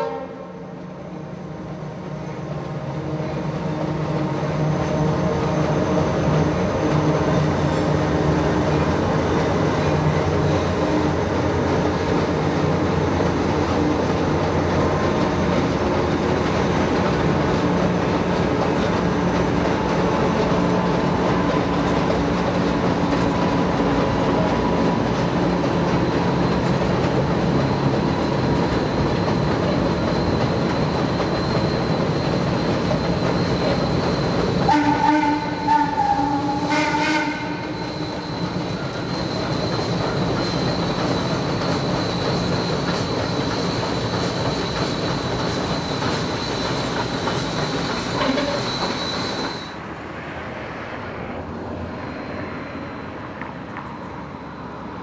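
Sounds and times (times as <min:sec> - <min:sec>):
locomotive engine drone: 0:00.0 - 0:55.0
train wheels rumbling on bridge: 0:00.0 - 0:55.0.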